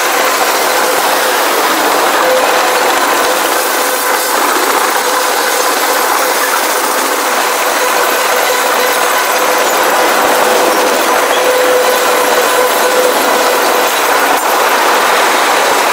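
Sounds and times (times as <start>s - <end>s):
freight train wheels rattling: 0.0s - 15.9s.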